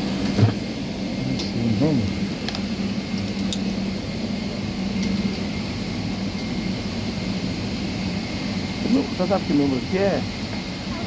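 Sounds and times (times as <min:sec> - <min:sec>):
cabin air-conditioning hum: 0:00.0 - 0:11.0.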